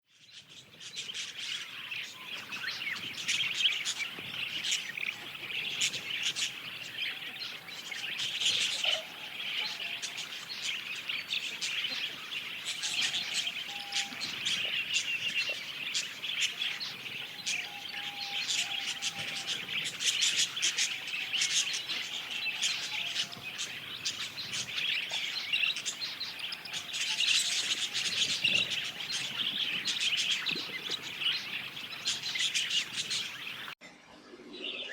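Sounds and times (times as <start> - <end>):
budgies chirping and warbling: 0.2 - 33.8.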